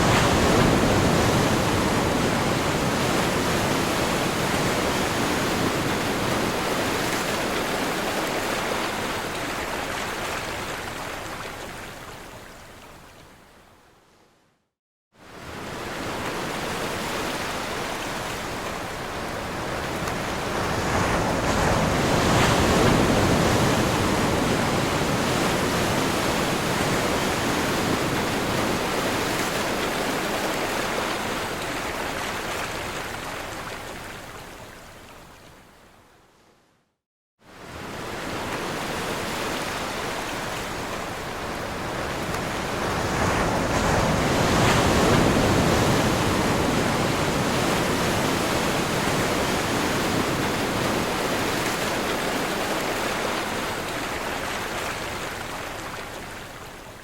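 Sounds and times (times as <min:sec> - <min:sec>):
ocean waves breaking: 0:00.0 - 0:11.2, 0:15.3 - 0:33.8, 0:37.5 - 0:56.6.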